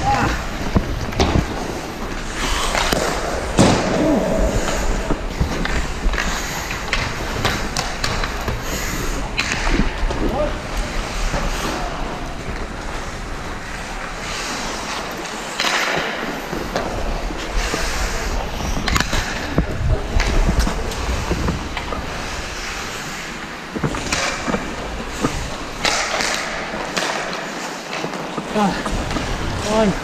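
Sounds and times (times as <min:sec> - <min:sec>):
hockey sticks clacking: 0:00.0 - 0:30.0
skates scraping ice: 0:00.0 - 0:30.0.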